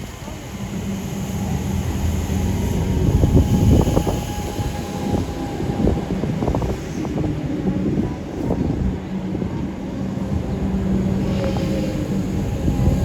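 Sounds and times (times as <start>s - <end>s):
train whine: 0.0s - 13.0s.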